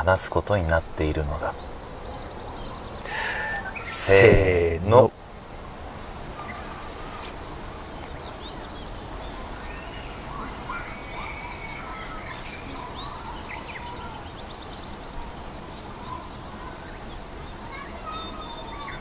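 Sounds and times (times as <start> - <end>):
low outdoor background noise: 0.0 - 19.0
songbirds chirping and whistling: 0.0 - 19.0.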